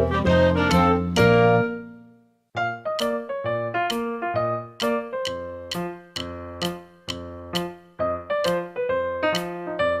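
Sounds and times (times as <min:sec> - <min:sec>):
children's keyboard music: 0:00.0 - 0:10.0.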